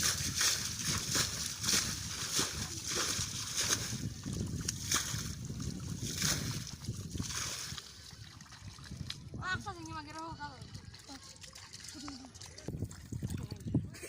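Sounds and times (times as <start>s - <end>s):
muddy water sloshing and splashing: 0.0s - 14.0s.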